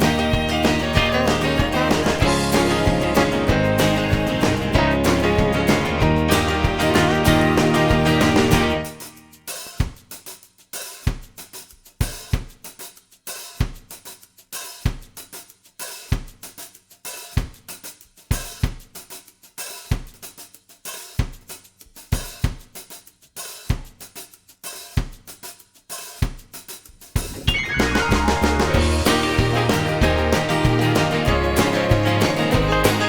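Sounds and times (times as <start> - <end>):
drum break with hi-hat and cymbal: 0.0 - 33.0.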